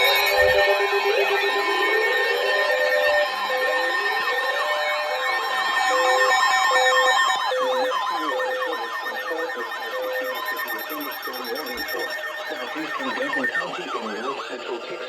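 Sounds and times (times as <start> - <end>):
electronic sirens yelping: 0.0 - 15.0.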